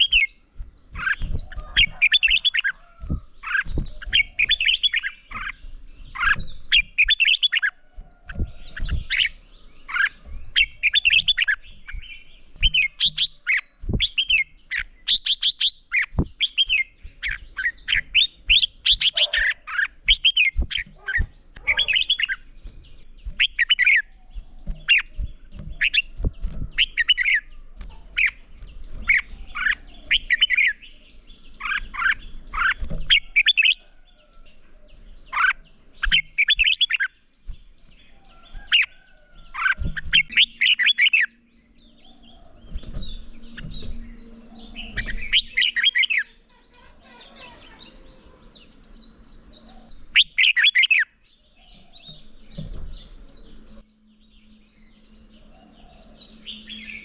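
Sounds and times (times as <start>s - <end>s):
bird singing rapid notes: 0.0s - 57.0s
faint high bird chirps: 0.0s - 57.0s.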